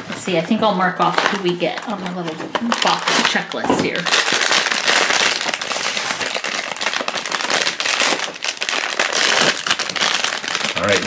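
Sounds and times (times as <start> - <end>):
foil bag crinkling: 0.0 - 11.0.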